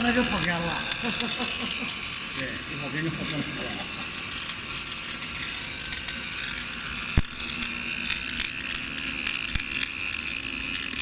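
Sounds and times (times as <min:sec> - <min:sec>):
faint electrical hum: 0:00.0 - 0:11.0
welding arc hissing and crackling: 0:00.0 - 0:11.0.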